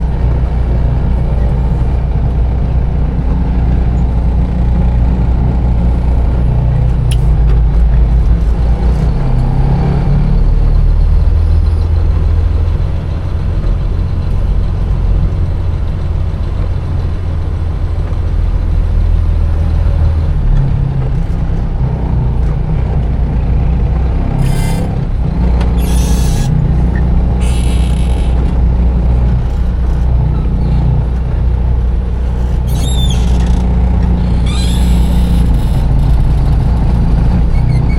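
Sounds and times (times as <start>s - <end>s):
diesel truck engine drone: 0.0s - 37.9s.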